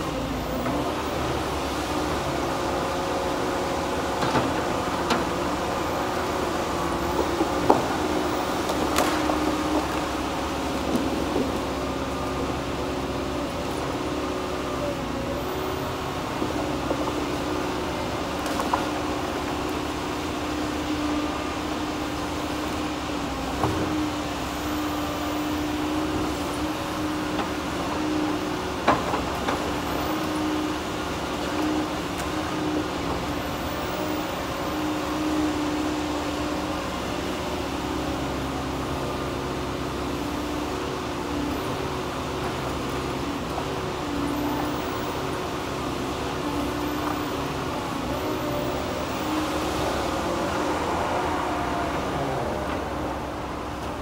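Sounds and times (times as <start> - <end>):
log loader engine running: 0.0 - 54.0.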